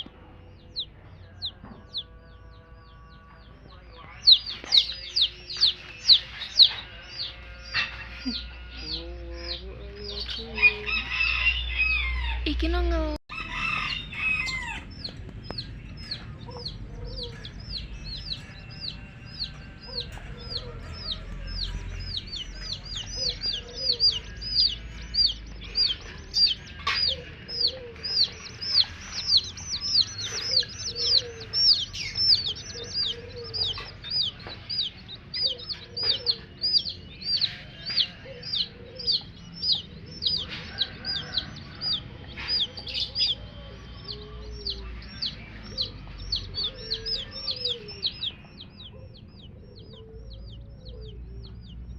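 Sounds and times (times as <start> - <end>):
baby chicks peeping: 0.0 - 51.9.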